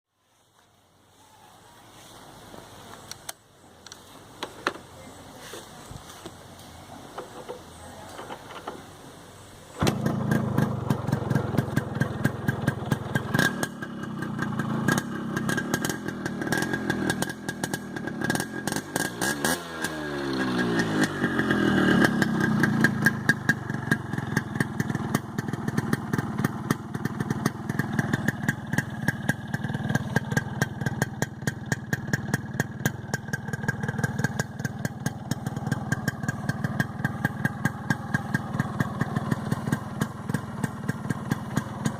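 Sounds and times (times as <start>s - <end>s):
two-stroke motorcycle engine: 7.2s - 8.8s, 9.8s - 41.9s.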